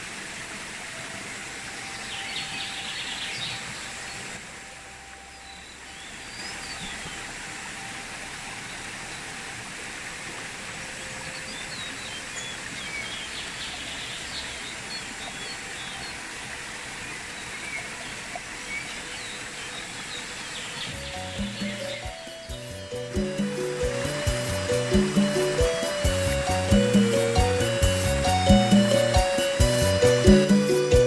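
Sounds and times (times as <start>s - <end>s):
stream water running over rocks: 0.0s - 31.0s
small birds chirping: 1.7s - 4.4s, 5.3s - 9.3s, 10.9s - 31.0s.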